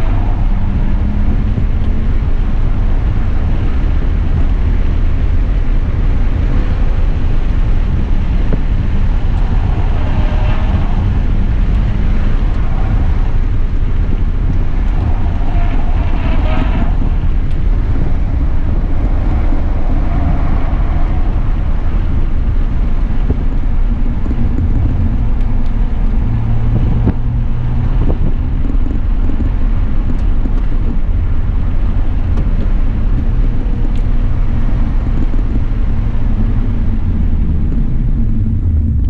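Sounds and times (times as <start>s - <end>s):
car engine running: 0.0s - 39.0s
road noise rumble: 0.0s - 39.0s.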